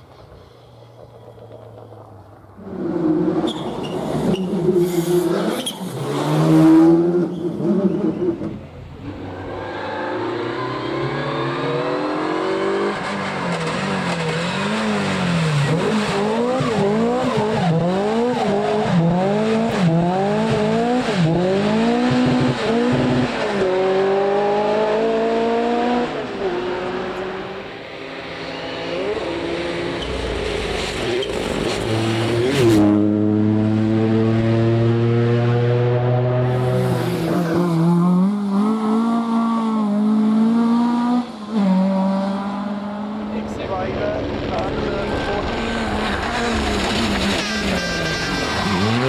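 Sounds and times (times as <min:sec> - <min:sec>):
rally car engine revving: 0:02.6 - 0:49.0.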